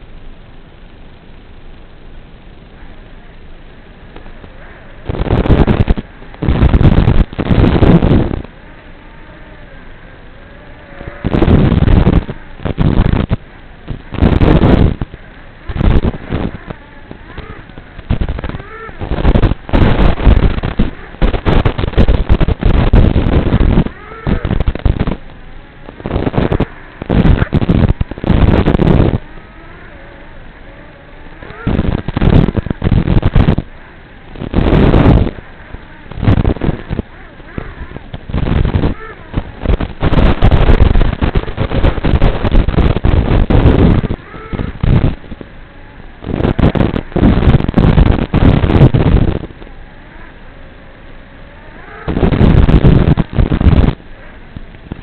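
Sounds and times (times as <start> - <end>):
faint whine: 0.0 - 55.0
wind buffeting microphone: 0.0 - 55.0.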